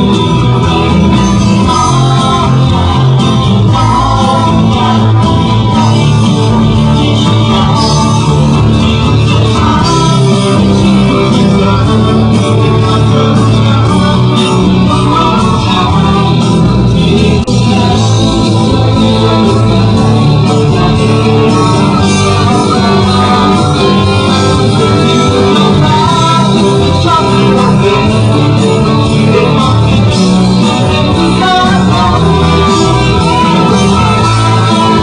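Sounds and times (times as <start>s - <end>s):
live band music: 0.0s - 35.0s
person singing: 0.0s - 35.0s.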